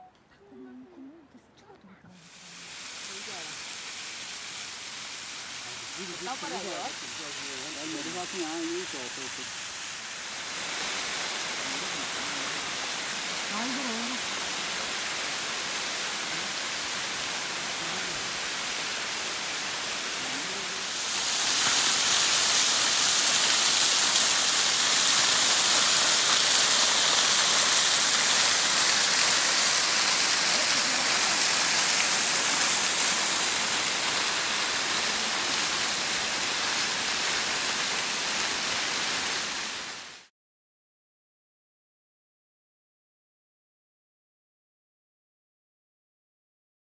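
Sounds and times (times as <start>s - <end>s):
waterfall rushing on rock: 2.2s - 40.3s.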